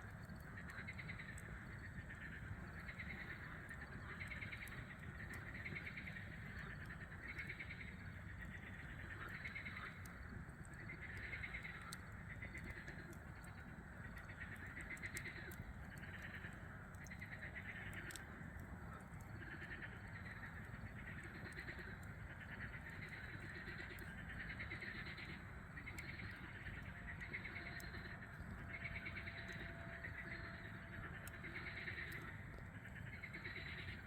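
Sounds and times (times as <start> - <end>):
campfire crackling: 0.0 - 34.0
frogs calling: 0.0 - 34.0.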